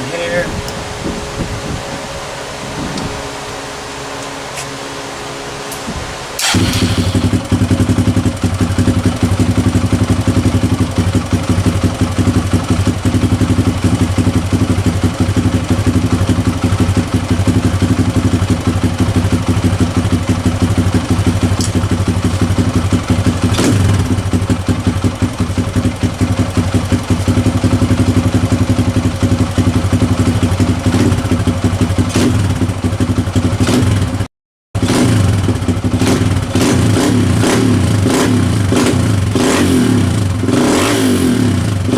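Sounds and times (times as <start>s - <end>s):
small engine idling: 0.0s - 41.9s.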